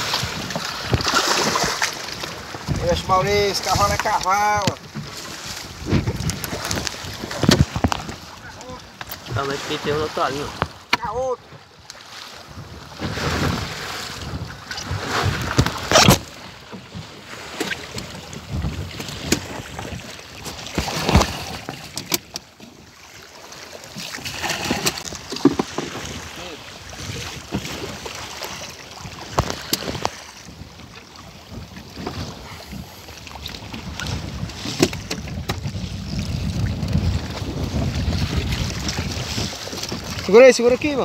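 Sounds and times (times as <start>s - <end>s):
wind buffeting microphone: 0.0s - 10.8s, 12.4s - 17.1s, 17.7s - 21.8s, 25.0s - 41.0s
sea washing against raft: 0.0s - 41.0s.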